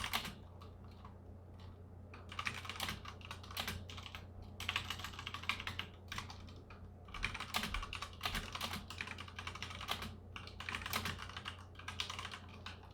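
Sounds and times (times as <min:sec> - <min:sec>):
mechanical keyboard typing: 0:00.0 - 0:12.9.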